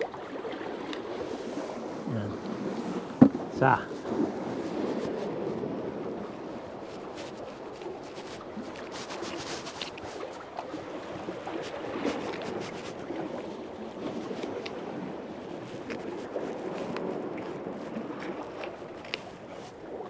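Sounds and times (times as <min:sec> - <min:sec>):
sea water washing: 0:00.0 - 0:20.0.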